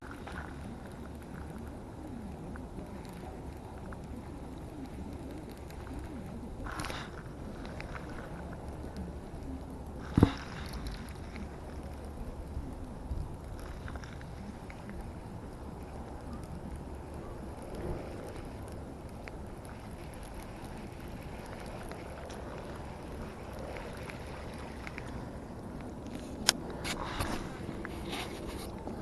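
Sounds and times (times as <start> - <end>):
low outdoor background rumble: 0.0 - 29.0.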